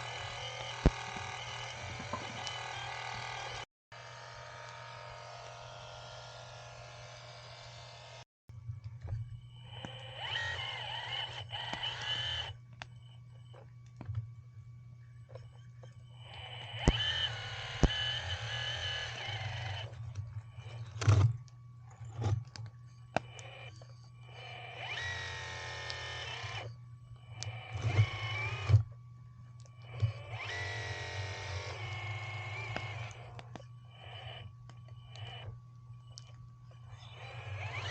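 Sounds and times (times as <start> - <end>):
pump motor whining: 0.0 - 14.4, 15.3 - 29.0, 29.6 - 37.9
steady low hum: 0.0 - 37.9.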